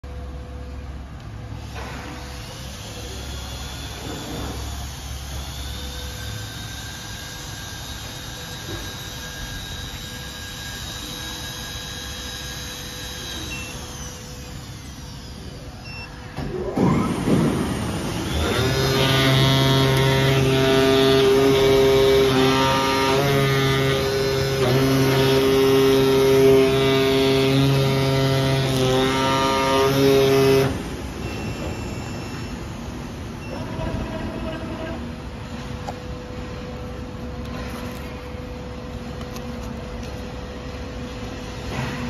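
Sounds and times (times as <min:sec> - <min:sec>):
loud multi-pitched machine buzz: 0:00.0 - 0:42.0
machine humming with high whines: 0:00.0 - 0:42.0
rising machine whines: 0:01.4 - 0:37.0.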